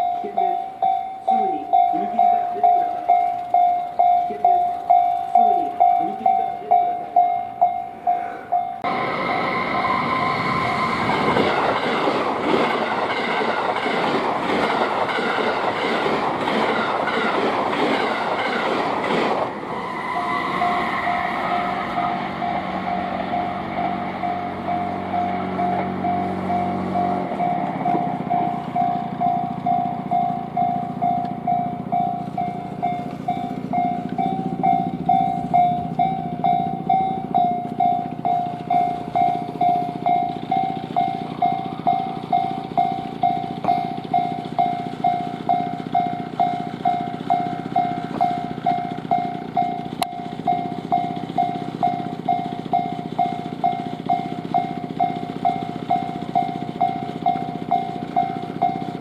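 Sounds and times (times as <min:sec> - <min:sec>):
level crossing warning bell: 0:00.0 - 0:12.0, 0:14.7 - 0:59.0
passing train rumble: 0:00.0 - 0:59.0.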